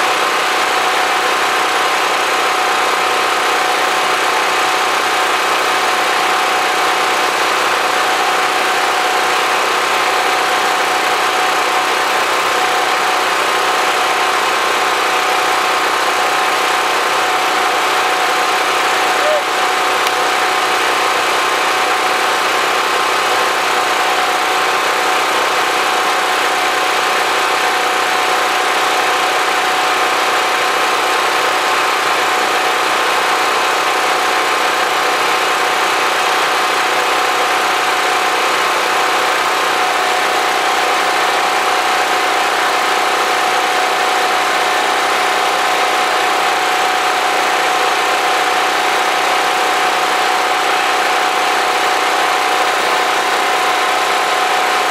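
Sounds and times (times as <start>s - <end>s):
portable generator running: 0.0s - 54.9s.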